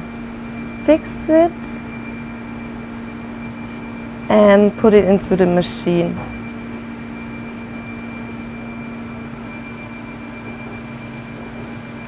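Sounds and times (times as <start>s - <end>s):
faint high whine: 0.0s - 12.0s
machinery low hum: 0.0s - 12.0s.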